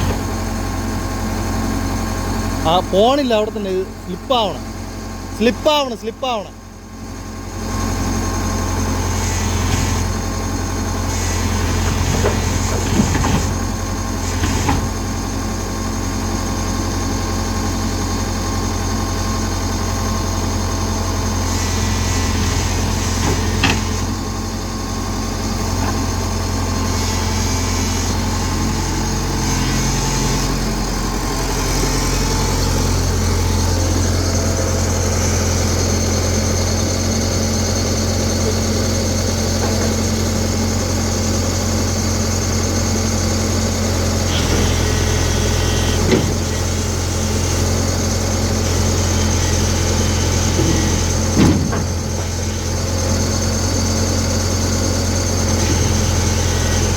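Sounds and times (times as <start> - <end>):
excavator diesel engine drone: 0.0 - 56.9.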